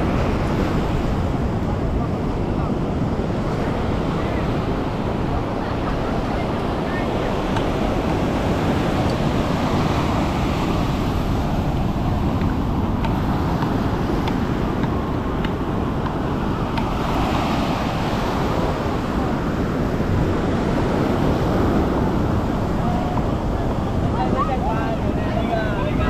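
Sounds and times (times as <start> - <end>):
surf breaking on beach: 0.0 - 26.0
wind buffeting microphone: 0.0 - 26.0.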